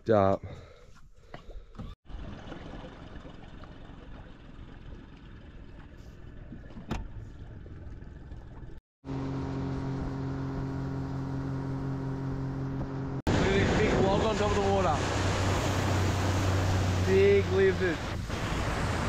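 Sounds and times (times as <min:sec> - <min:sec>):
vehicle engine and road noise: 0:02.1 - 0:19.0.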